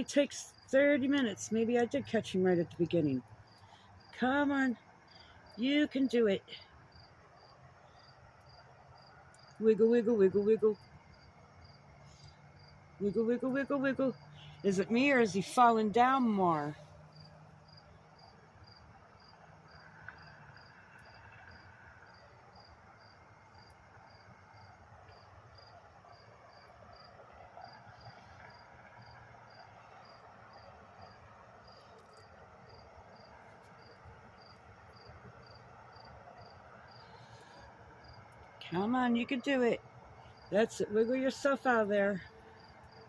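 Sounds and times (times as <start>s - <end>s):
low steady background hiss: 0.0s - 43.0s
high insect chirps: 6.6s - 38.4s, 40.0s - 43.0s.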